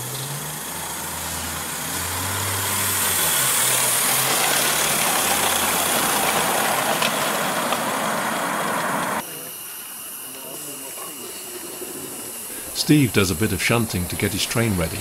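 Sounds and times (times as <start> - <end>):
steam locomotive exhaust hiss: 0.0 - 15.0
wheels running on rails: 0.0 - 15.0.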